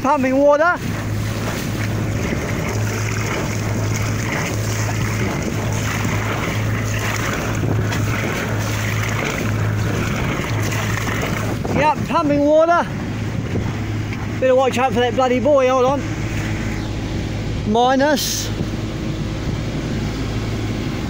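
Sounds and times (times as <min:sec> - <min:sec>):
boat engine humming: 0:00.0 - 0:21.0
exhaust pumping out water: 0:00.0 - 0:21.0
wake rushing: 0:00.0 - 0:21.0
wind on microphone: 0:00.0 - 0:21.0.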